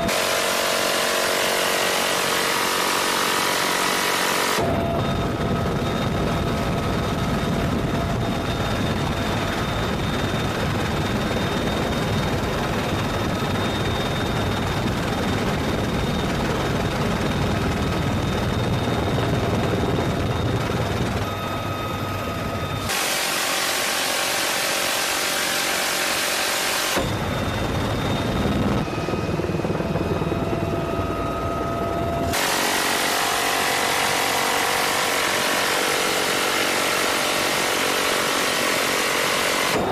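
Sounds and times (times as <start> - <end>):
helicopter rotor and turbine noise: 0.0 - 39.9
high whine: 0.0 - 39.9.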